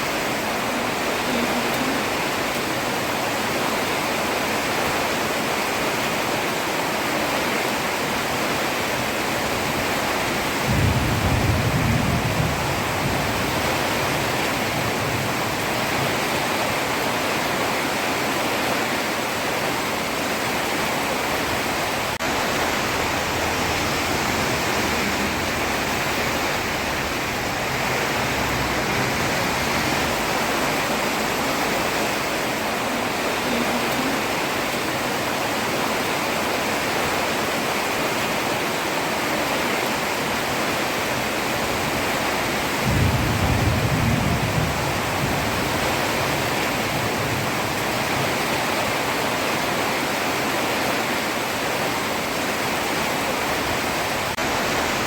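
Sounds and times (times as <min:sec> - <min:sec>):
heavy rain on a road: 0:00.0 - 0:55.0.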